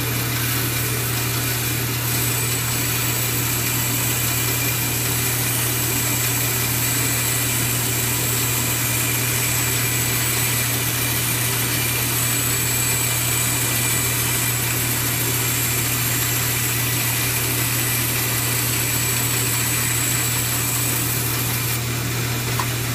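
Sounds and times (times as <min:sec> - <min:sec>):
bandsaw cutting through book: 0:00.0 - 0:22.9.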